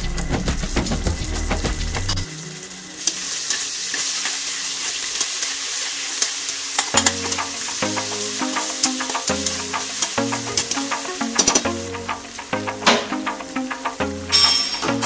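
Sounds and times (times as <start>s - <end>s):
background music: 0.0s - 4.8s, 6.9s - 15.0s
spices sizzling in hot oil: 0.0s - 15.0s.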